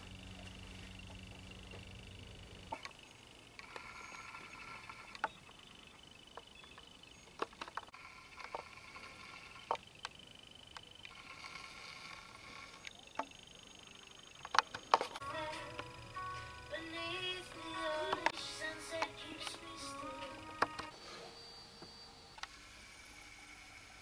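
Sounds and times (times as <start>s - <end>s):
low hiss: 0.0s - 7.4s, 8.6s - 24.0s.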